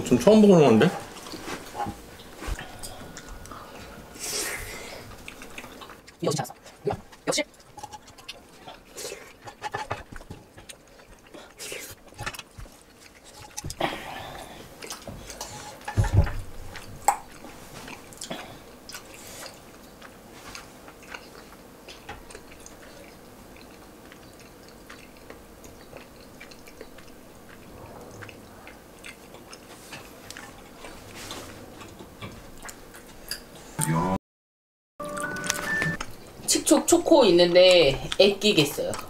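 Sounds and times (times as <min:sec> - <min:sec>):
chewing: 0:01.0 - 0:33.7, 0:37.6 - 0:39.0.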